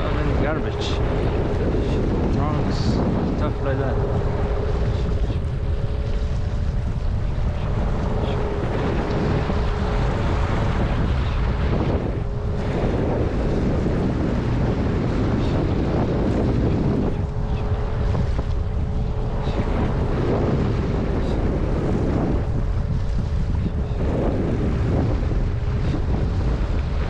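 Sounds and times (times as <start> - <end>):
outboard motor humming: 0.0 - 27.0
wind noise on microphone: 0.0 - 27.0.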